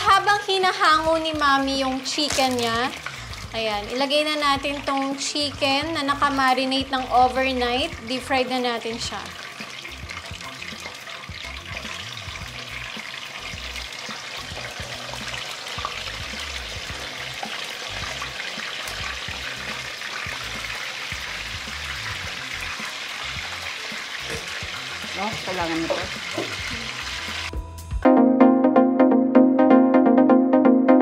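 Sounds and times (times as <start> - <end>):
chicken deep-frying in oil: 0.0 - 27.6.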